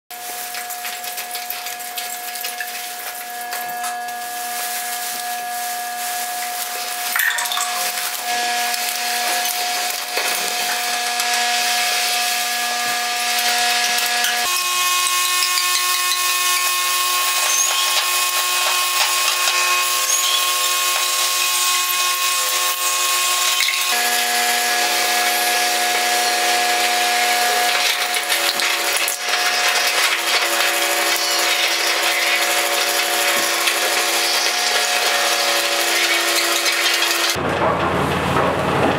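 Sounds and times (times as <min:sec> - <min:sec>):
scratchy styrofoam scraping noise: 0:00.1 - 0:07.2, 0:07.8 - 0:37.4
held drone tones: 0:00.4 - 0:37.4.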